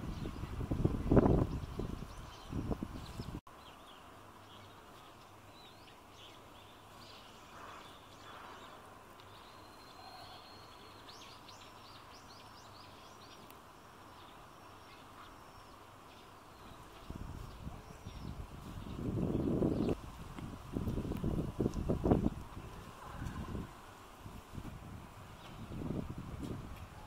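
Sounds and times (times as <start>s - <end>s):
small birds chirping: 0.0s - 24.7s
background hiss: 0.0s - 27.0s.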